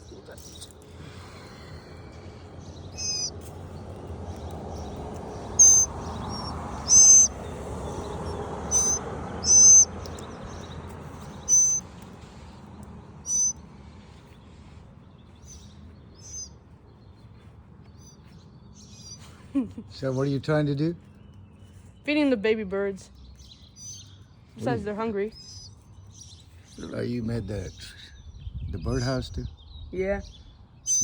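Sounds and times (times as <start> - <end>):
baby birds cheeping: 0.0 - 31.0.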